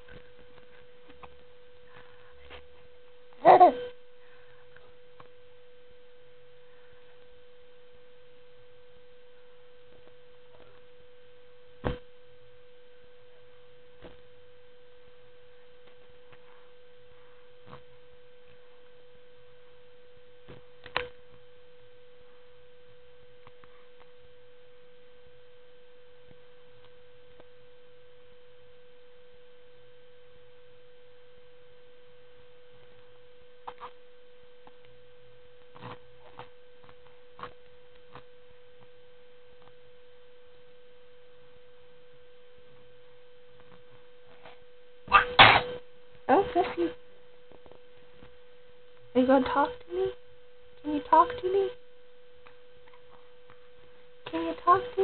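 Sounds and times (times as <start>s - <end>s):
steady whine: 0.0s - 55.0s.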